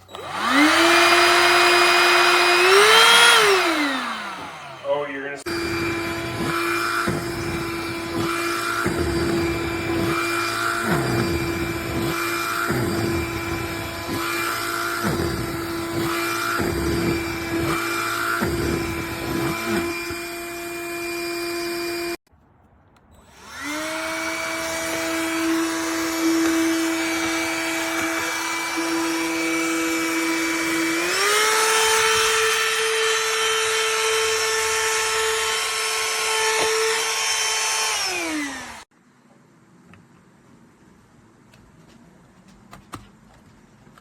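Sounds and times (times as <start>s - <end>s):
handheld vacuum motor whining: 0.0s - 22.2s, 23.1s - 38.9s.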